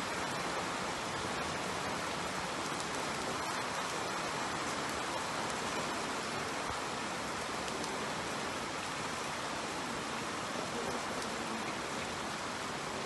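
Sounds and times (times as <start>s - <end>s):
rain on paving: 0.0s - 13.0s.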